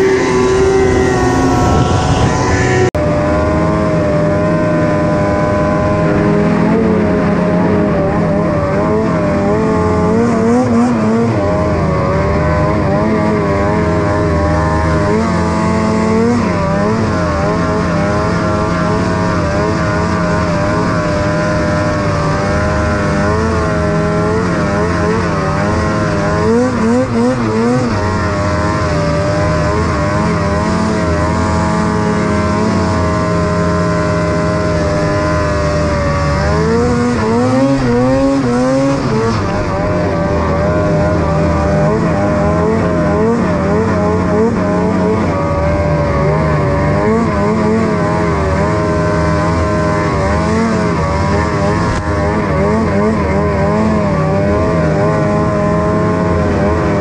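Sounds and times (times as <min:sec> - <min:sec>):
snowmobile engine revving high: 0:00.0 - 0:57.0.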